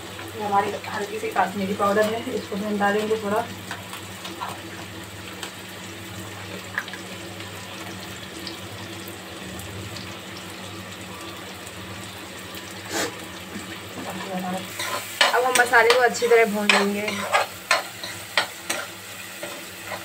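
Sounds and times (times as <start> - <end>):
masala sizzling in oil: 0.0 - 20.0.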